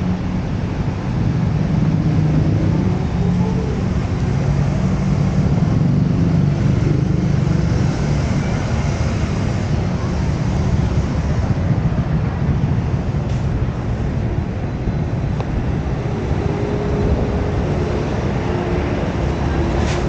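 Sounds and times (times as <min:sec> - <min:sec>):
cars and motorcycles passing: 0:00.0 - 0:20.0.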